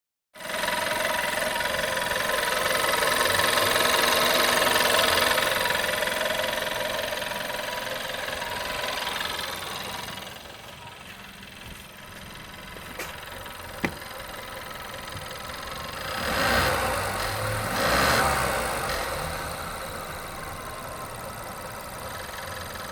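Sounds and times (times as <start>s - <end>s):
car engine running: 0.4s - 22.9s.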